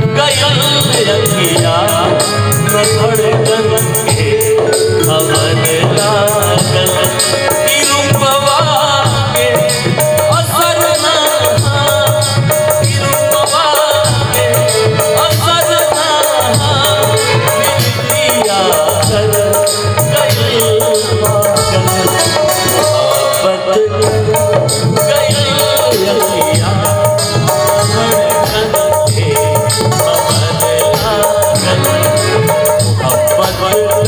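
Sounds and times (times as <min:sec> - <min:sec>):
hand drum: 0:00.0 - 0:34.0
harmonium and keyboard melody: 0:00.0 - 0:34.0.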